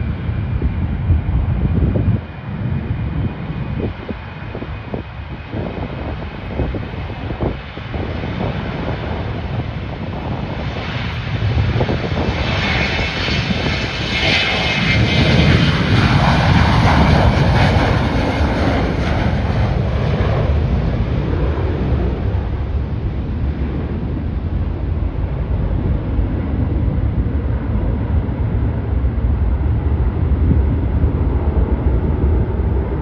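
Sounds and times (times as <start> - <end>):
airliner engines passing: 0.0 - 33.0
engine whine: 0.0 - 33.0
wind buffeting microphone: 0.0 - 33.0.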